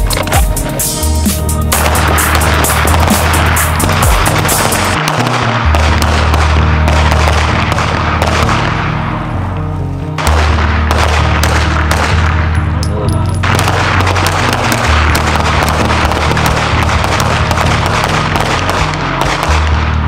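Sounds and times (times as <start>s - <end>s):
music with deep bass line: 0.0s - 20.0s.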